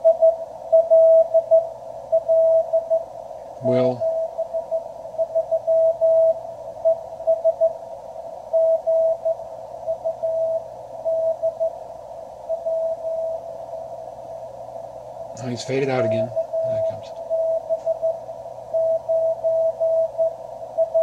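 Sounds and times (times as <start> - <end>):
morse code tone: 0.0 - 3.0, 3.6 - 7.8, 8.5 - 11.8, 12.5 - 13.5, 15.4 - 21.0
receiver noise: 0.0 - 21.0.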